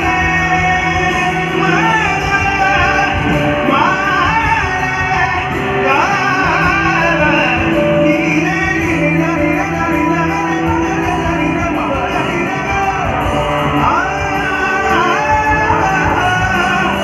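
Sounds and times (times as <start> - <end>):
backing instruments: 0.0 - 17.0
man singing into microphone: 0.0 - 17.0.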